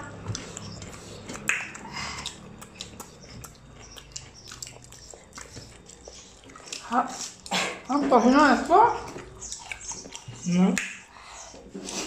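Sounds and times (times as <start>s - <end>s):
people chewing with lip smacks: 0.0s - 7.9s, 8.6s - 12.0s.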